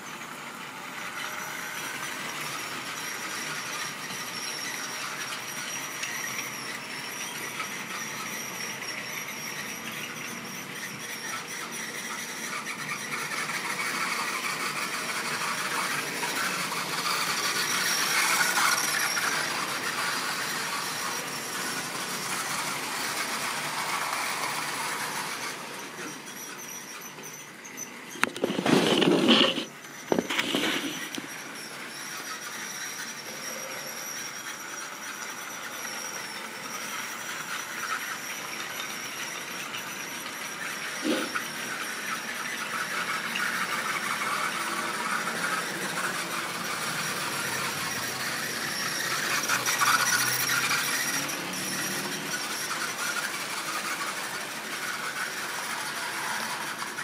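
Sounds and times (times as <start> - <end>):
model train whirring: 0.0 - 57.0.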